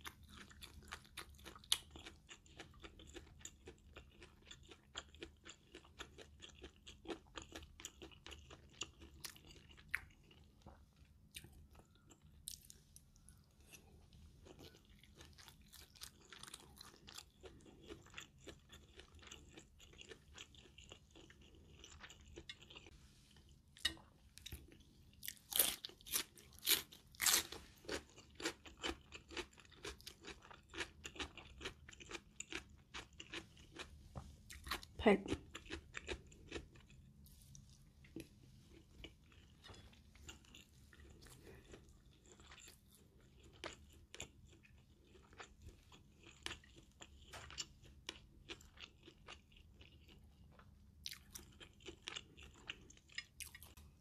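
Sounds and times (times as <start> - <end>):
close-up chewing: 0.0 - 54.0
soft crunching: 7.4 - 34.9, 35.5 - 54.0.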